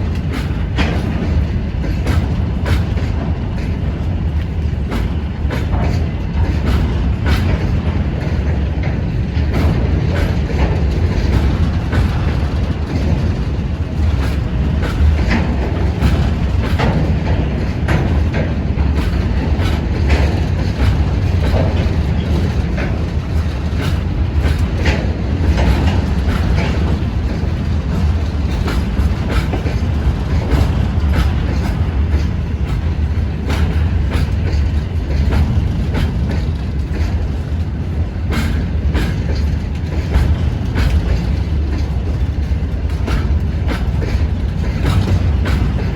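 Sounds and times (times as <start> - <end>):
wheels clacking over rail joints: 0.0 - 45.9.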